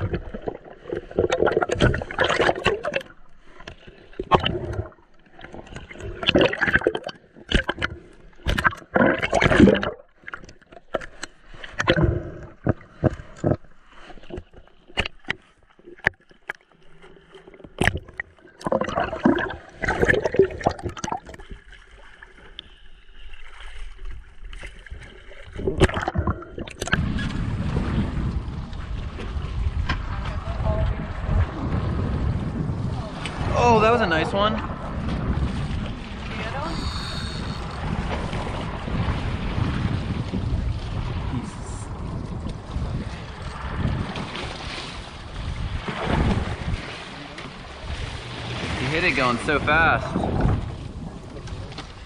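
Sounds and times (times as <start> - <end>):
water sloshing and gurgling: 0.0 - 52.0.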